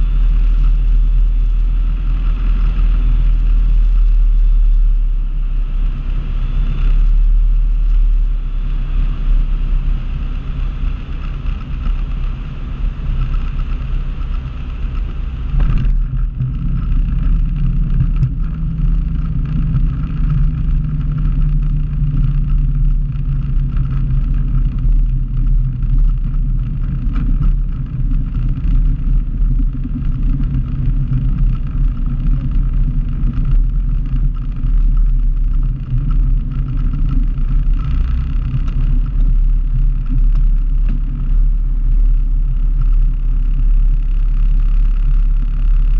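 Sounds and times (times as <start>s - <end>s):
propeller airplane engine: 0.0s - 45.9s
wheels rumbling on runway: 0.0s - 45.9s.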